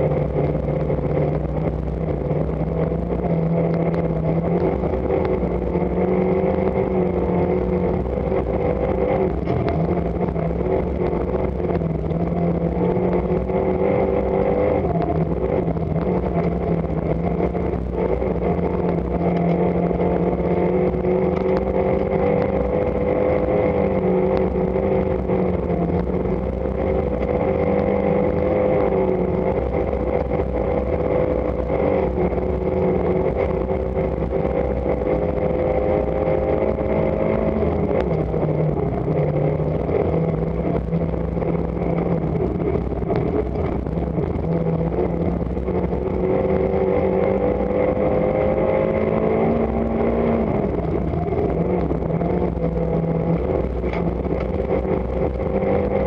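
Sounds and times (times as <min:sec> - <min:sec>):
car engine revving high: 0:00.0 - 0:56.0
road and tyre noise: 0:00.0 - 0:56.0.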